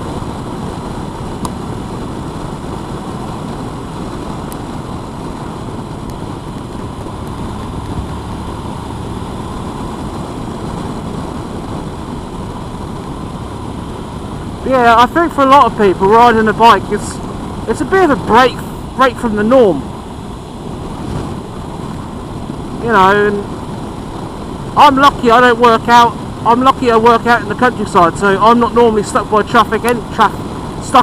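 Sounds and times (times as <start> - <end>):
motorcycle engine running: 0.0 - 26.9
wind rush: 0.0 - 31.0.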